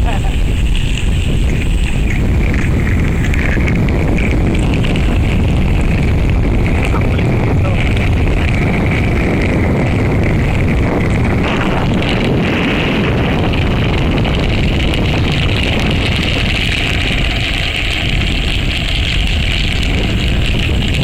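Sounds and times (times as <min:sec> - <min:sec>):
wheels rolling on asphalt: 0:00.0 - 0:21.0
wind buffeting microphone: 0:00.0 - 0:21.0.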